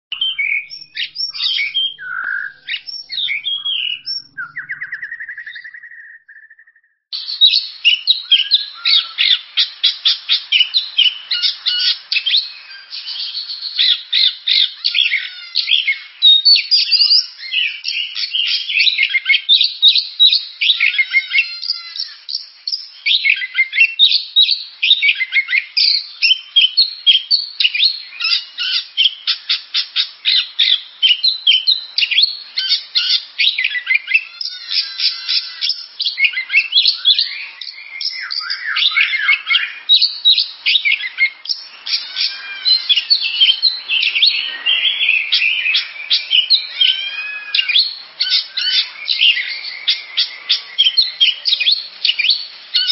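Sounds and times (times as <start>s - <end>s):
magpie-robin singing: 0.1s - 52.9s.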